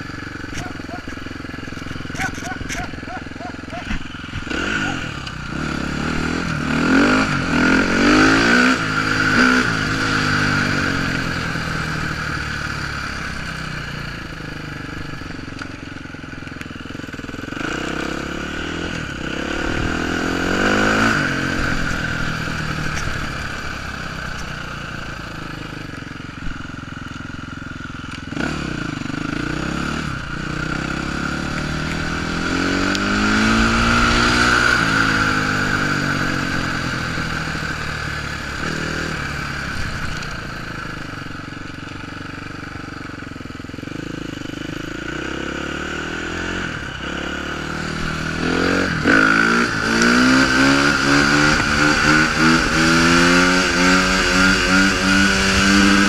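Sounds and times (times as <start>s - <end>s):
dirt bike engine accelerating: 0.0s - 56.0s.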